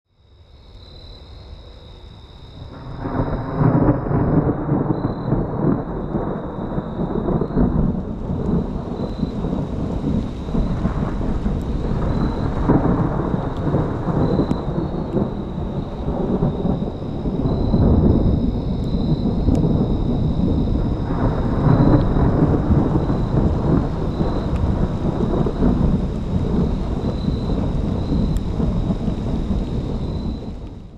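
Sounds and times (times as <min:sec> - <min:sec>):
rain falling: 0:02.6 - 0:30.9
thunder rumbling: 0:02.6 - 0:30.9.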